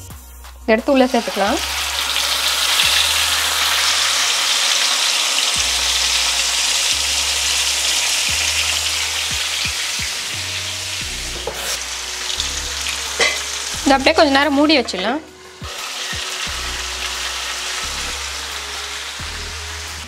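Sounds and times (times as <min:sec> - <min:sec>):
chicken sizzling in hot oil: 0:01.0 - 0:20.0.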